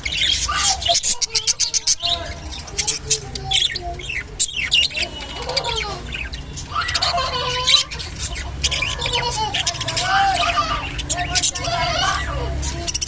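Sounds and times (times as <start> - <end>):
budgerigars chirping and chattering: 0.0 - 13.0.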